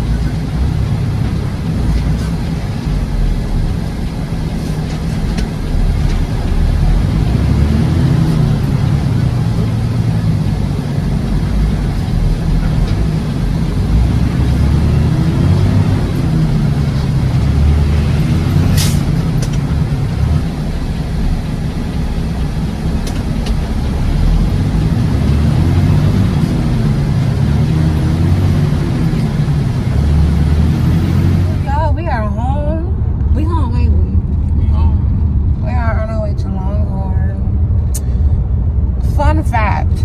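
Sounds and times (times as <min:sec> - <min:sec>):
truck engine rumble: 0:00.0 - 0:40.0.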